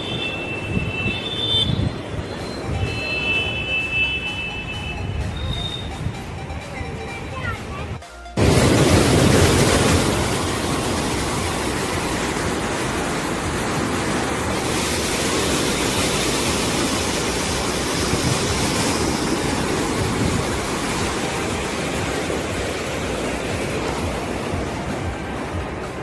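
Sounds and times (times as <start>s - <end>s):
water rushing under sluice gate: 0.0s - 26.0s.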